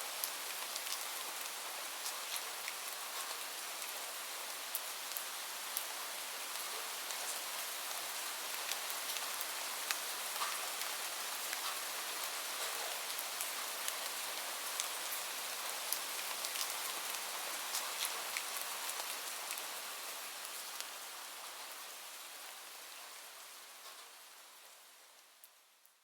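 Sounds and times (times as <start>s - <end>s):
steady rain with ticking drops: 0.0s - 26.0s.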